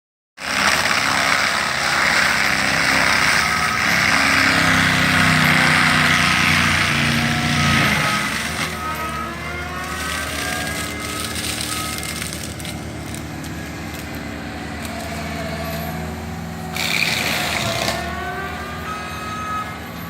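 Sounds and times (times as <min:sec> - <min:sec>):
loader engine under load: 0:00.4 - 0:20.0
mulcher grinding and shredding wood: 0:00.4 - 0:20.0
rising engine whine: 0:01.0 - 0:20.0.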